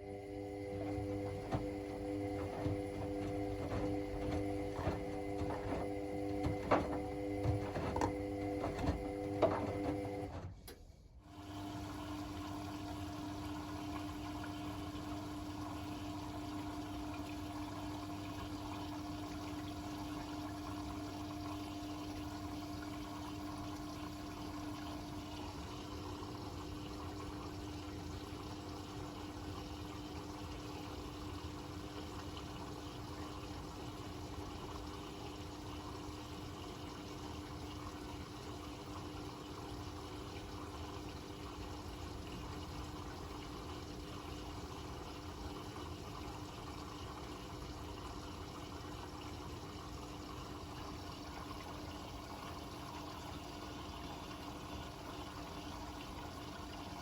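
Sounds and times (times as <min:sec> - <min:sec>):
washing machine humming: 0:00.0 - 0:57.0
water moving inside machine: 0:00.0 - 0:57.0.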